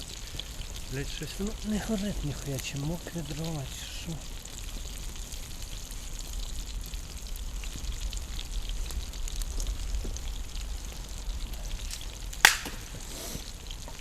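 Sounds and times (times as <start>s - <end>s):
campfire crackling: 0.0s - 14.0s
loud fire crack: 0.0s - 14.0s.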